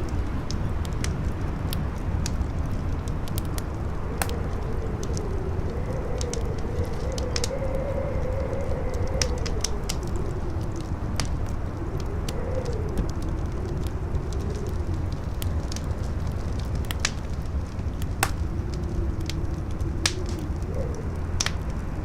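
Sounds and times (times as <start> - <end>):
campfire crackling: 0.0 - 22.0
strong wind howling: 0.0 - 22.0.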